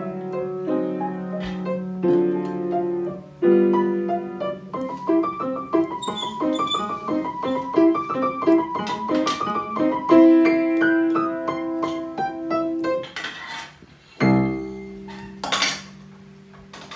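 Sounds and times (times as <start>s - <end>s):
piano playing: 0.0s - 13.2s, 14.2s - 16.9s.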